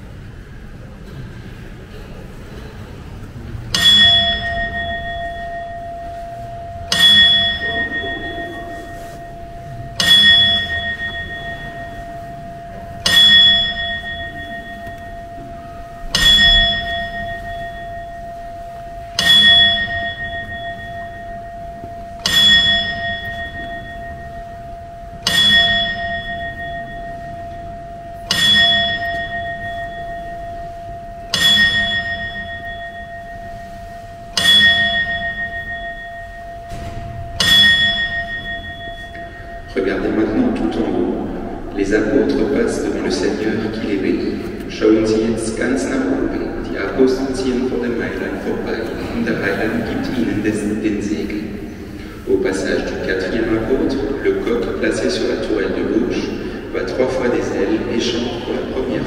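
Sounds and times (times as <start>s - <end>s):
clock bell striking: 1.0s - 59.0s.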